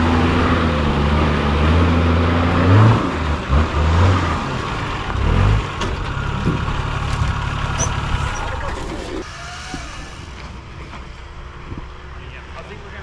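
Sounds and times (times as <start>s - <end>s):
off-road vehicle engine revving: 0.0s - 10.8s.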